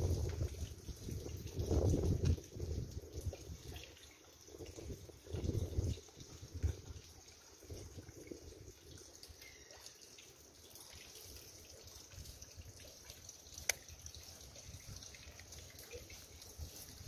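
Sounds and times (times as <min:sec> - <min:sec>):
rain dripping: 0:00.0 - 0:17.0.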